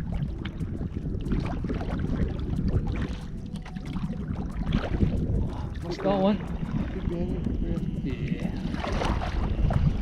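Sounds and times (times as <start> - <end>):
water splashing around kayak: 0.0 - 10.0
wind rumble on microphone: 0.0 - 10.0.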